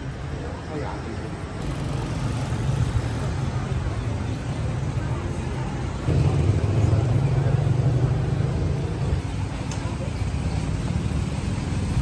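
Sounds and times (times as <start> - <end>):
people's voices: 0.0 - 11.7
road traffic rumble: 0.0 - 12.0.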